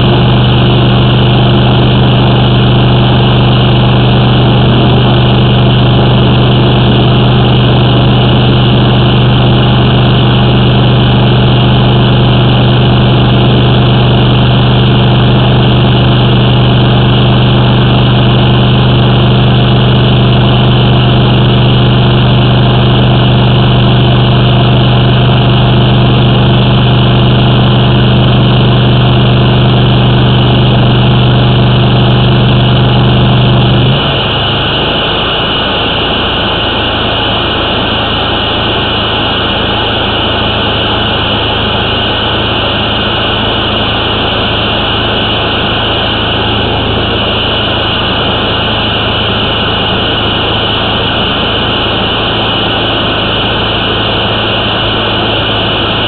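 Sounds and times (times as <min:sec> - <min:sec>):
drain jetter engine running: 0:00.0 - 0:56.0.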